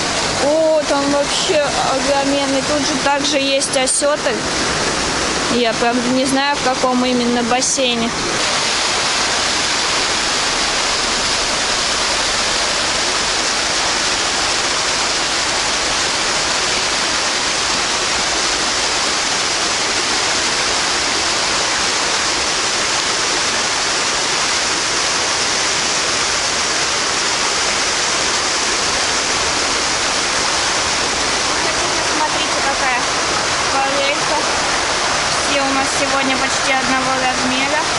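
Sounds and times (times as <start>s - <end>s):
water churning in a pool: 0.0s - 37.9s.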